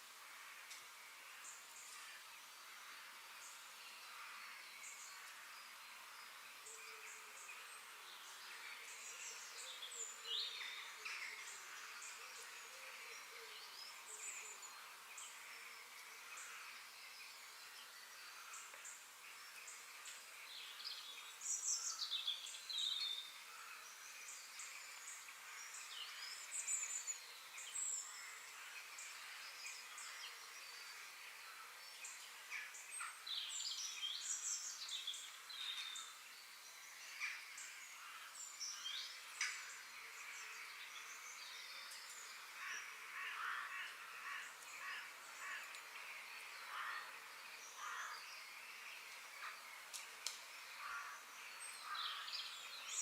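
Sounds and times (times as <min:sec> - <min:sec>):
steady high hiss: 0:00.0 - 0:53.0
birds chirping and singing: 0:01.4 - 0:53.0.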